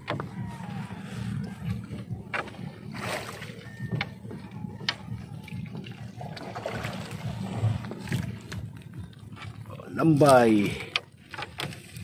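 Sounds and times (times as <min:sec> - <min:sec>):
steady low rumble: 0:00.0 - 0:10.0
water sloshing and dripping: 0:00.0 - 0:12.0.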